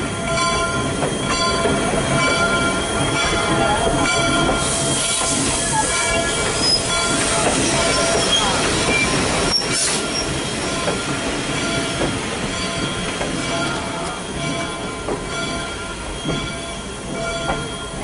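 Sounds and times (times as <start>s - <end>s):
train wheels squealing on rails: 0.0s - 18.0s.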